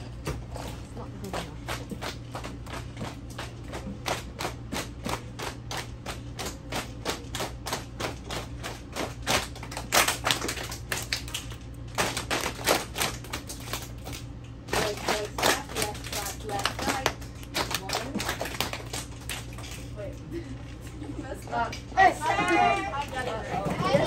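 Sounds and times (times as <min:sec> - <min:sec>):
children clapping and patting laps: 0:00.0 - 0:20.0, 0:21.6 - 0:24.0.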